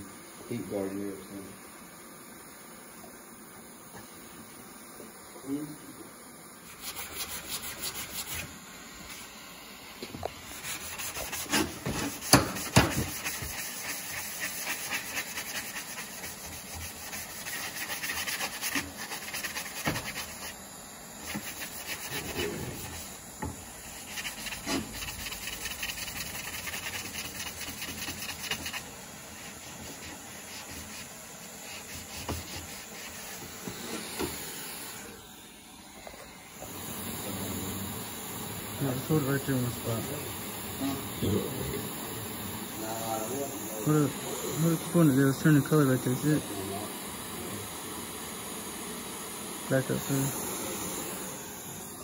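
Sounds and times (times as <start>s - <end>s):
torch flame hissing: 0.0s - 52.0s.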